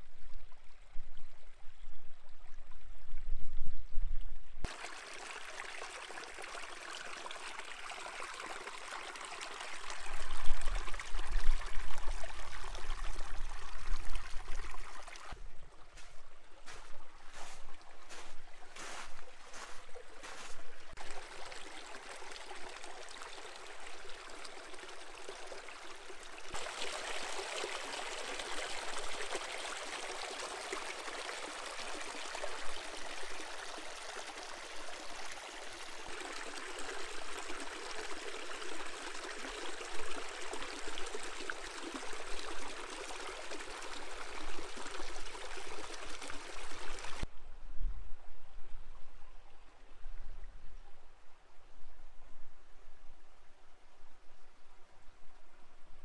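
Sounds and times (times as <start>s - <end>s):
stream trickling over sand and rocks: 0.0s - 47.3s.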